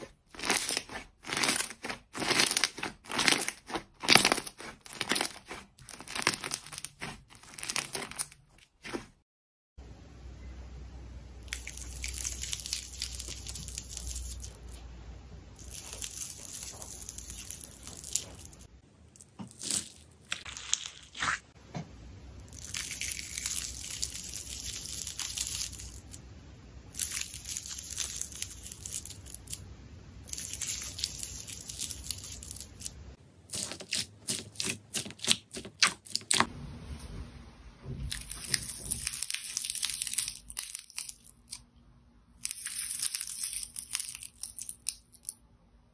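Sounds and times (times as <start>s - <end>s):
slime crackling and popping: 0.0s - 9.1s, 11.4s - 14.8s, 15.6s - 21.4s, 22.5s - 26.2s, 26.9s - 29.6s, 30.2s - 36.5s, 38.1s - 41.6s, 42.4s - 45.4s.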